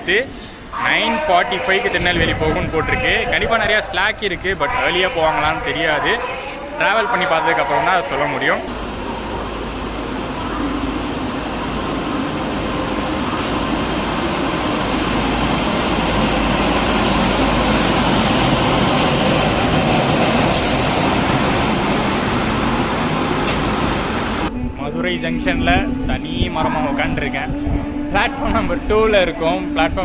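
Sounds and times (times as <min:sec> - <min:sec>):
train rumbling past on rails: 0:00.0 - 0:26.5.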